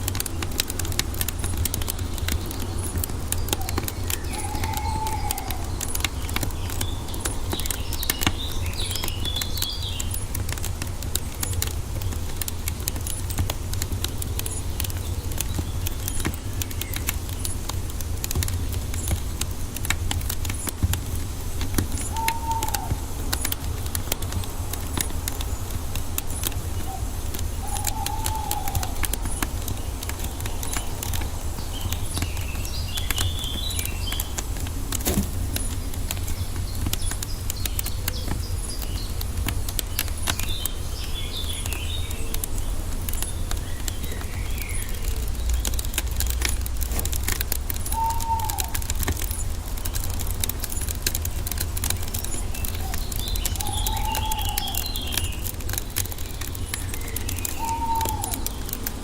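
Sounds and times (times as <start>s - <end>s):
birds chirping: 0.0s - 59.0s
wood fire crackling and popping: 0.0s - 59.0s.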